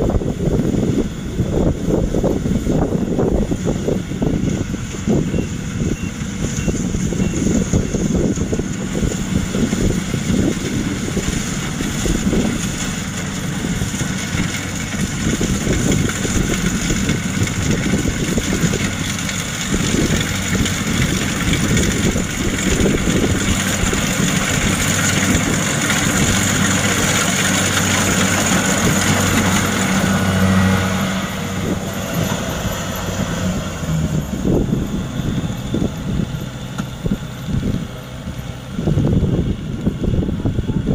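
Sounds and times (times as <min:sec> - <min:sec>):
diesel engine drone: 0:00.0 - 0:40.9
rushing harvester machinery: 0:00.0 - 0:40.9.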